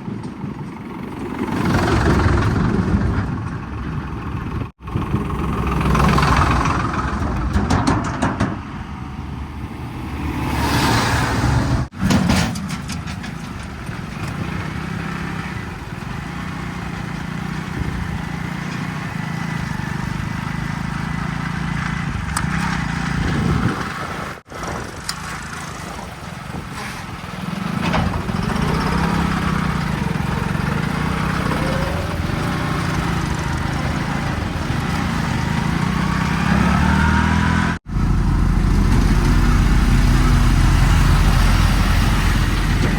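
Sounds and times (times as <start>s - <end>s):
heavy machinery diesel engine: 0.0s - 42.9s.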